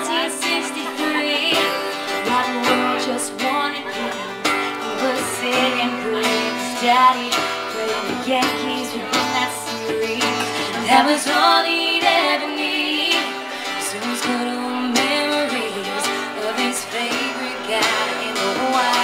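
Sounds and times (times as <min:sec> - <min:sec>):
acoustic guitar strumming: 0:00.0 - 0:19.0
women singing: 0:00.0 - 0:19.0.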